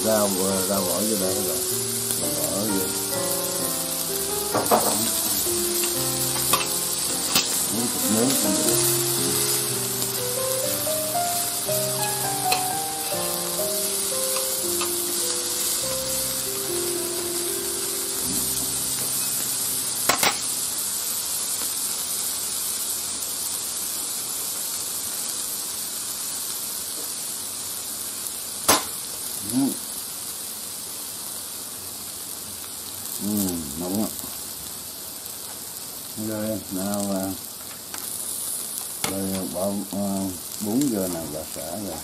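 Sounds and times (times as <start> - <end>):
food sizzling in a pan: 0.0 - 42.0.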